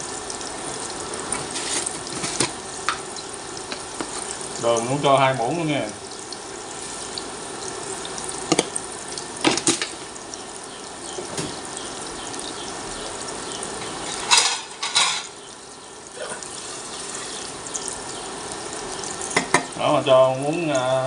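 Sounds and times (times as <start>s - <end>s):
garlic sizzling in oil: 0.0s - 21.0s.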